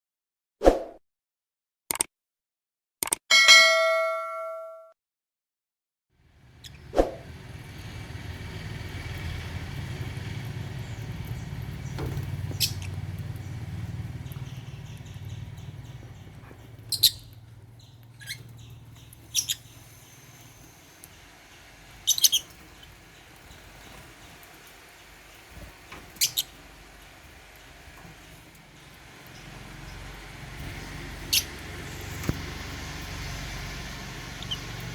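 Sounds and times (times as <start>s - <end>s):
low background rumble: 6.2s - 34.9s
lovebirds chirping: 6.4s - 34.9s.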